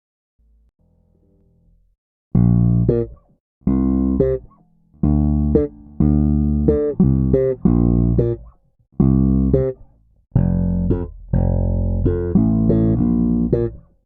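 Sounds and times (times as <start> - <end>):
electric bass guitar phrases: 2.3 - 14.0.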